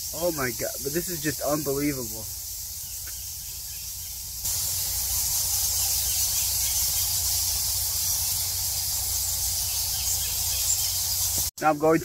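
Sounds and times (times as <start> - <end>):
fruit bats squeaking: 0.0 - 11.5.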